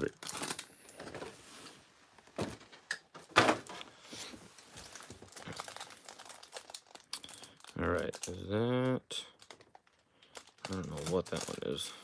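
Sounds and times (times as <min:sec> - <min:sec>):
faint cellophane rustling: 0:00.0 - 0:12.0.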